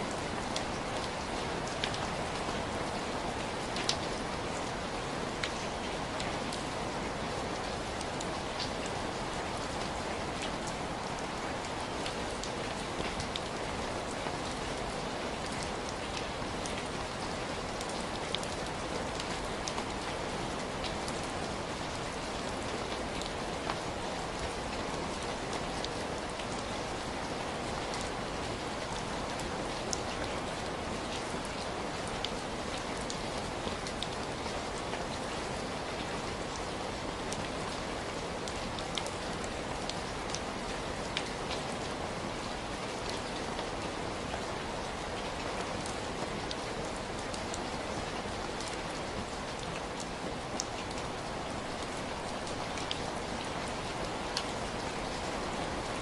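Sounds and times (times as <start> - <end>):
heavy rain falling: 0.0 - 56.0
raindrops ticking on a surface: 0.1 - 56.0.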